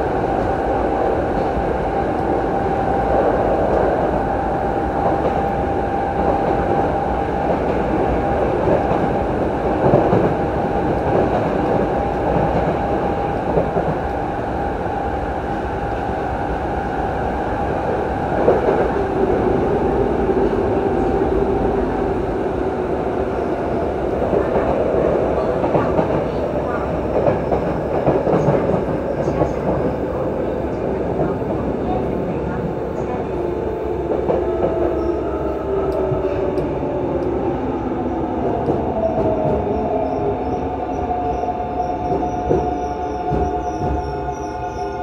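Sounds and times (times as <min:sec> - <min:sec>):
wheels rumbling on rail: 0:00.0 - 0:45.0.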